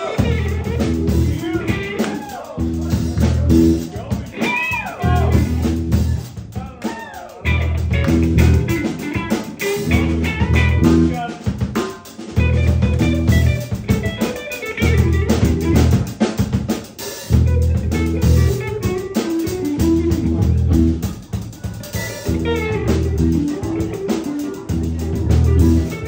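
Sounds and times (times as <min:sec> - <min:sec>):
electric guitar lead lines: 0:00.0 - 0:06.2, 0:07.4 - 0:16.6, 0:17.2 - 0:26.0
bass line: 0:00.0 - 0:16.3, 0:17.3 - 0:26.0
drum kit with snare hits: 0:00.0 - 0:26.0.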